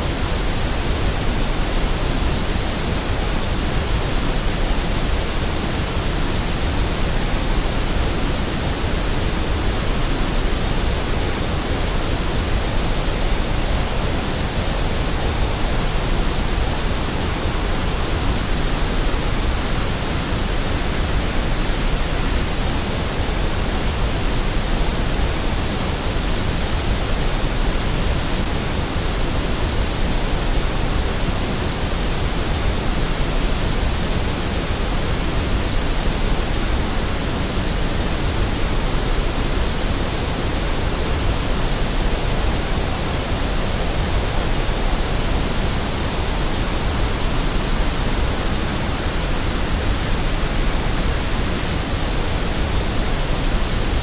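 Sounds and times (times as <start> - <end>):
steady white noise hiss: 0.0 - 54.0.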